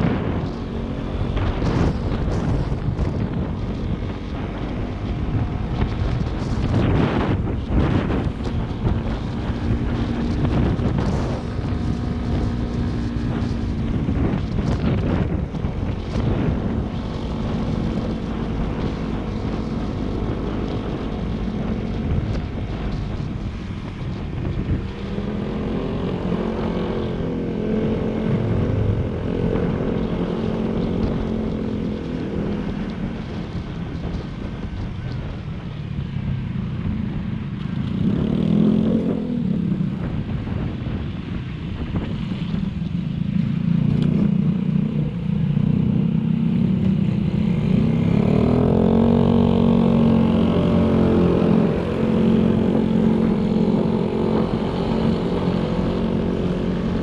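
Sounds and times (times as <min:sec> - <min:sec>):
motorcycle engine revving: 0:00.0 - 0:34.2, 0:37.1 - 0:57.0
wind buffeting microphone: 0:00.0 - 0:57.0.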